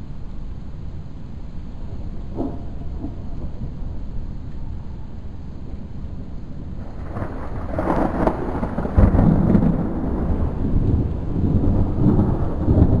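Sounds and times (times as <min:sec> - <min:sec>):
thunder rumbling: 0:00.8 - 0:13.0.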